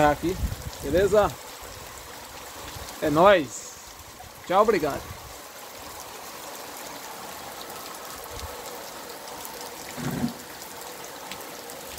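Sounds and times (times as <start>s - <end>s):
rain falling on wet ground: 0.0s - 11.9s
runoff water streaming: 0.0s - 11.9s.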